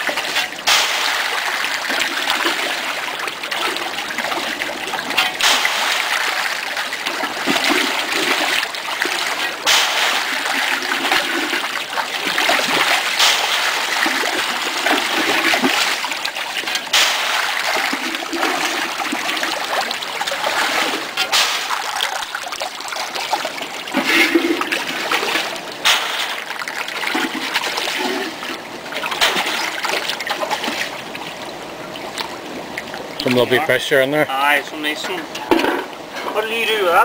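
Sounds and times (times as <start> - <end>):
water churning and splashing: 0.0 - 37.0.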